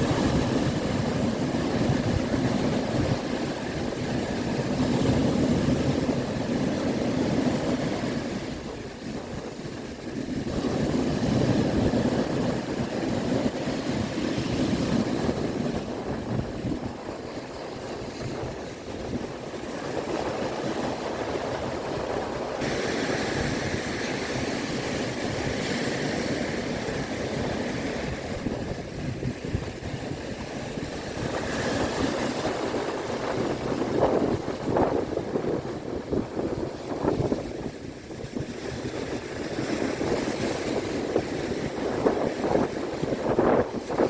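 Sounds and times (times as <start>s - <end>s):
sea waves breaking on shore: 0.0s - 44.0s
wind on microphone: 0.0s - 44.0s.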